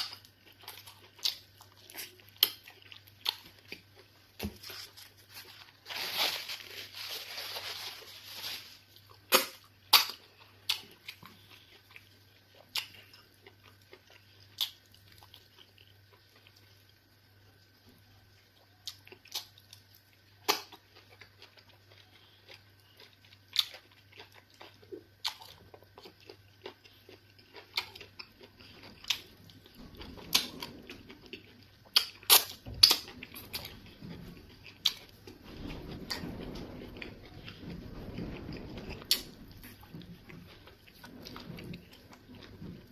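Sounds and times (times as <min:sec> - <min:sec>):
low chewing sounds: 0:00.0 - 0:42.9.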